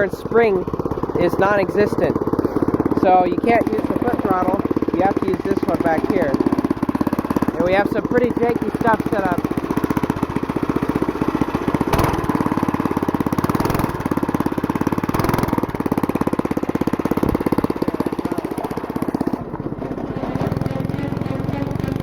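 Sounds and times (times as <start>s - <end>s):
go-kart engine running: 0.0s - 22.0s.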